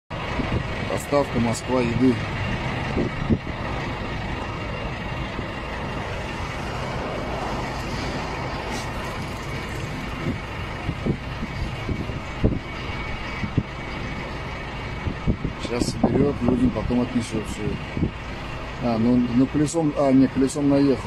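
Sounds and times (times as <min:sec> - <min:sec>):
low engine hum: 0:00.1 - 0:21.0
road traffic noise: 0:00.1 - 0:21.0.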